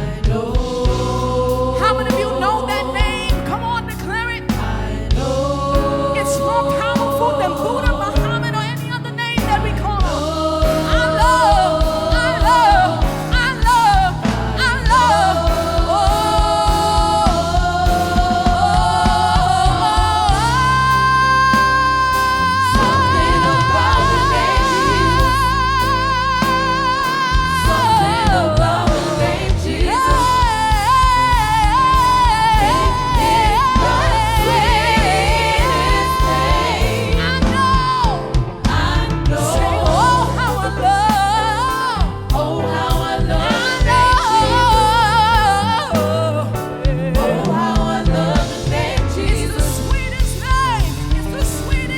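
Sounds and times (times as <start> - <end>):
gospel singing with band: 0.0 - 51.9.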